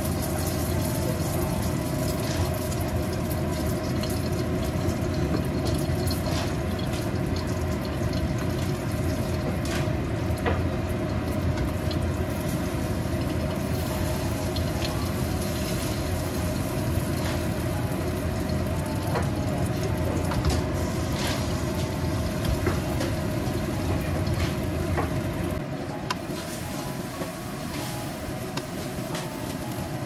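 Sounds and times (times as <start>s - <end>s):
omelette sizzling in oil: 0.0s - 25.6s.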